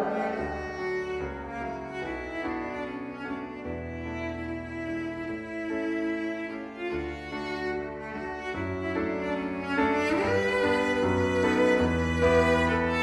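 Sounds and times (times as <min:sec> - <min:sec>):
slow bowed string music: 0:00.0 - 0:13.0.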